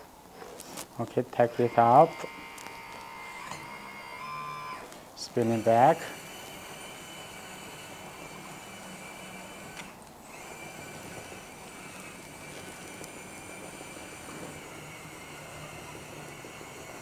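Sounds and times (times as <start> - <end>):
hydraulic pump motor whine: 1.3 - 17.0.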